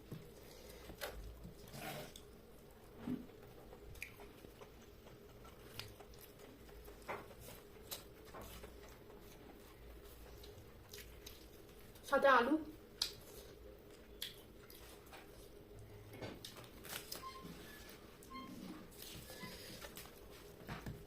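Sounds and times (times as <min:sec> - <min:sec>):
person chewing food: 0:00.0 - 0:12.1, 0:12.8 - 0:17.4, 0:18.2 - 0:21.0
faint steady hum: 0:00.0 - 0:21.0.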